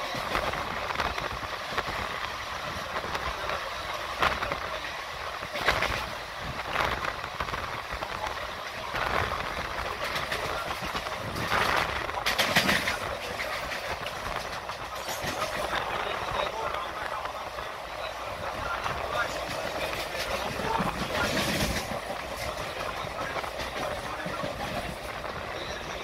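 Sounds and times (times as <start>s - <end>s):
train rumble and rush: 0.0s - 26.0s
wheels clacking on rails: 0.0s - 26.0s.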